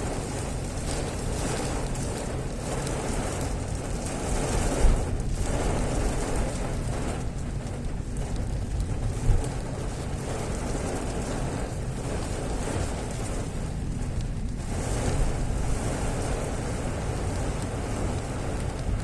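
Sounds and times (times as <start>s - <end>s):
heavy rain: 0.0s - 19.0s
road rumble: 0.0s - 19.0s
wind buffeting microphone: 0.0s - 19.0s.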